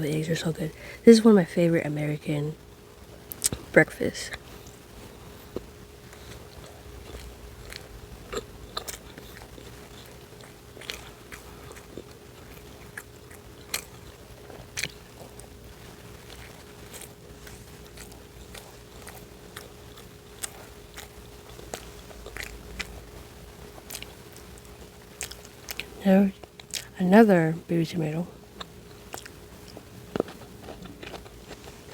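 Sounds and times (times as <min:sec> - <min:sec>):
person chewing and crunching food: 0:03.2 - 0:03.7, 0:04.3 - 0:27.0, 0:28.3 - 0:31.9.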